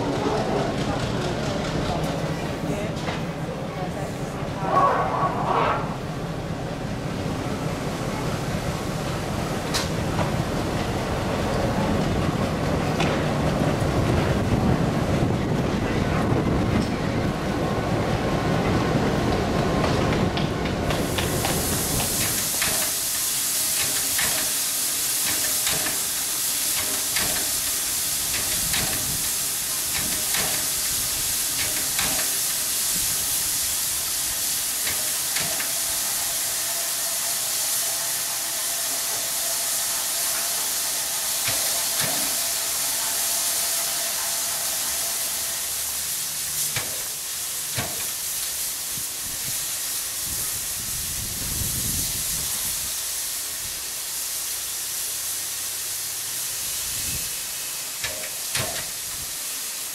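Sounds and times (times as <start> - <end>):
steam hissing from locomotives: 0.0 - 59.9.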